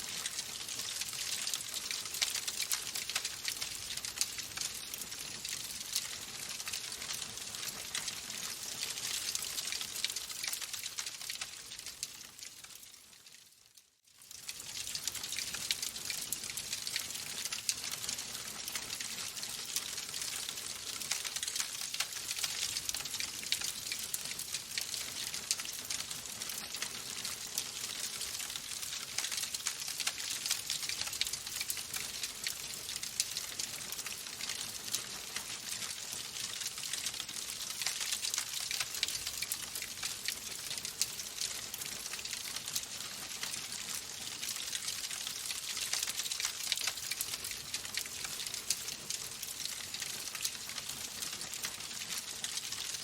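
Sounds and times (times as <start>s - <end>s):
wood fire crackling: 0.0s - 13.4s, 14.2s - 53.0s.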